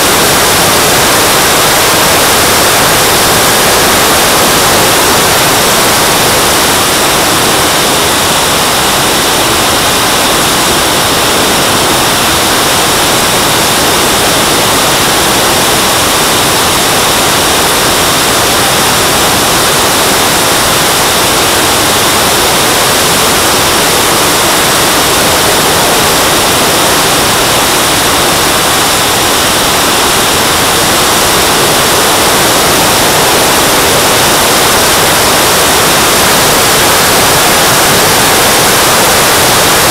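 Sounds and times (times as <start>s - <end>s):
faint high whine: 0.0s - 39.9s
jet turbine hiss: 0.0s - 39.9s.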